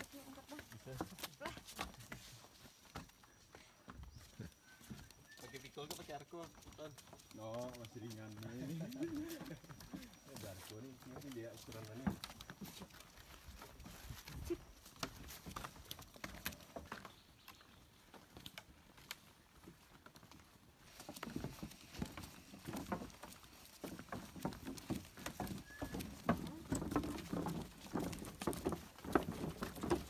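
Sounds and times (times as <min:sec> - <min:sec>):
footsteps on wooden boards: 0:00.0 - 0:30.0.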